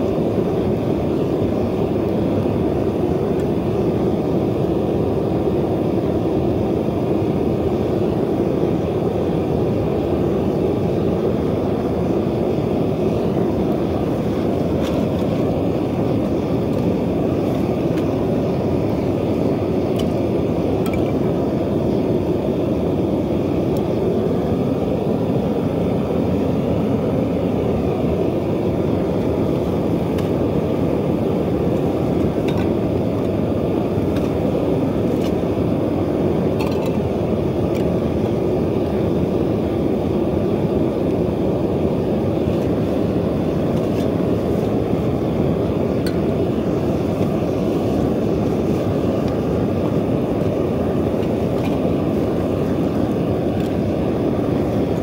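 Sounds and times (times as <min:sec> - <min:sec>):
propane burner roaring: 0:00.0 - 0:55.0.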